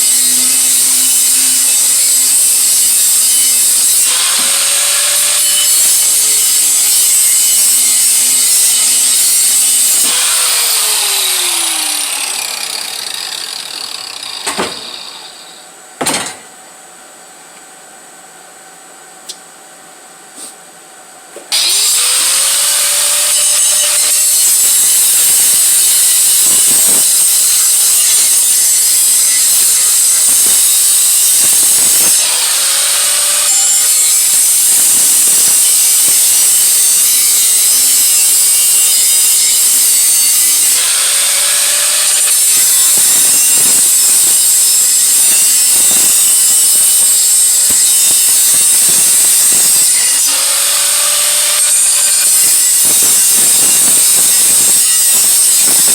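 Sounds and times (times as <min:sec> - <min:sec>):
power tool grinding steel: 0:00.0 - 0:15.6, 0:21.5 - 0:55.9.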